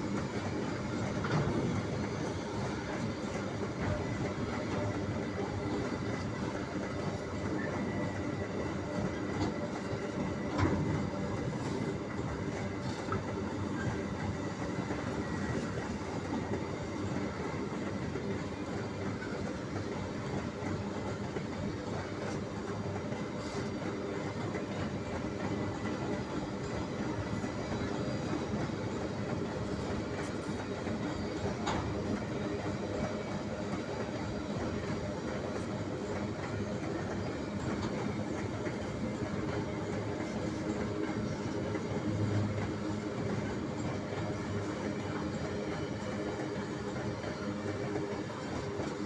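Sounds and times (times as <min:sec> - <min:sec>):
train wheels rolling on rails: 0:00.0 - 0:49.0.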